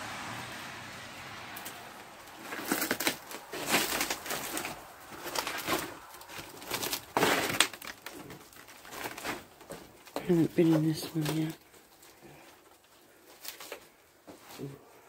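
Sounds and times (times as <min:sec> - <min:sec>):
footsteps crunching over debris: 0:01.6 - 0:14.7.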